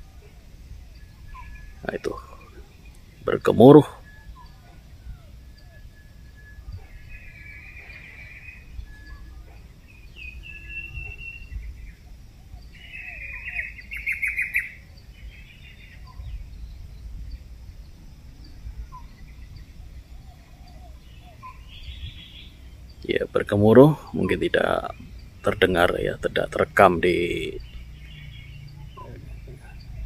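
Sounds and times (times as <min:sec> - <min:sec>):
birds chirping and singing: 0:00.0 - 0:30.0
faint low background noise: 0:00.0 - 0:30.0.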